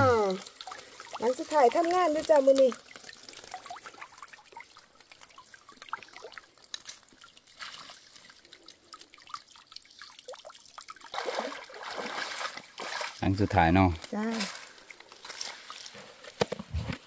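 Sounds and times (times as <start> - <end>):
feet wading through shallow water: 0.0 - 13.6, 14.4 - 16.1
water trickling and dripping: 0.0 - 16.4.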